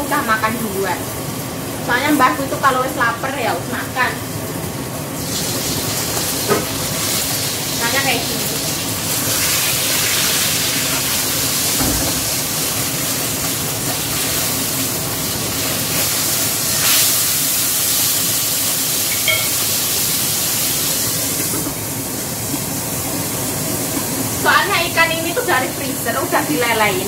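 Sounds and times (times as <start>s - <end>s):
fish sizzling in oil: 0.0s - 27.0s.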